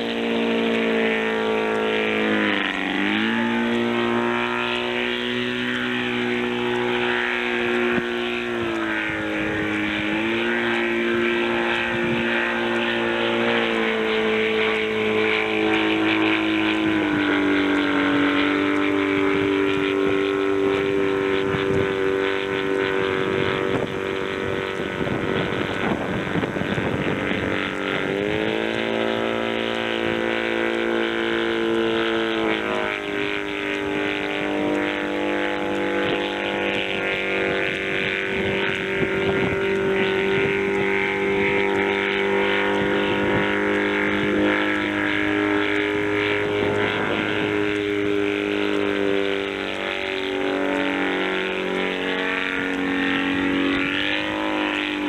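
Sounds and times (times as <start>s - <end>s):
small aircraft engine droning overhead: 0.0s - 55.0s.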